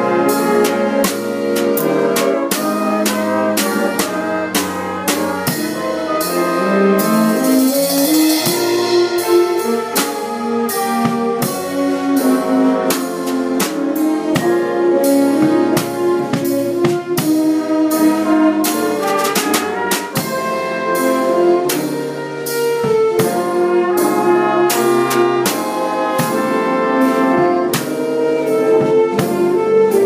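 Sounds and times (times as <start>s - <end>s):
drum kit with cymbals: 0.0s - 30.0s
held horn chords: 0.0s - 30.0s.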